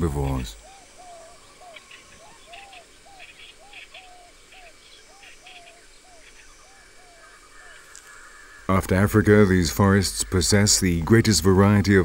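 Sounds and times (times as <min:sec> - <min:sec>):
faint high bird chirps: 0:00.0 - 0:10.8.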